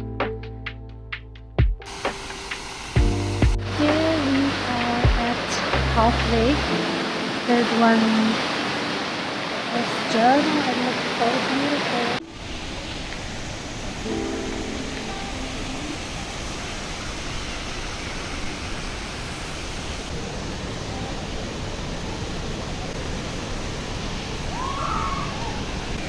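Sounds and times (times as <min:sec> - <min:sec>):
steady rushing noise: 0:01.9 - 0:24.6.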